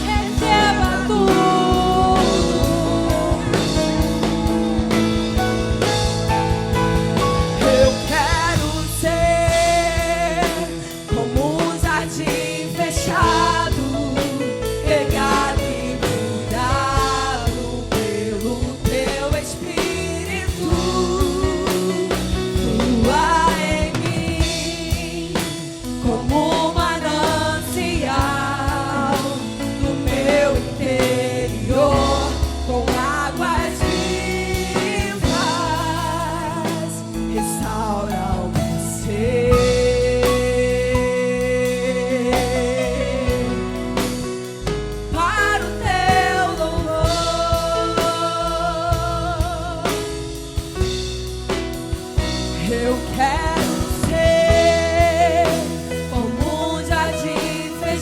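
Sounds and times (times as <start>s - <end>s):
person singing: 0.0s - 5.4s, 7.6s - 44.2s, 45.1s - 50.3s, 52.2s - 58.0s
drums: 0.0s - 58.0s
worship band music: 0.0s - 58.0s.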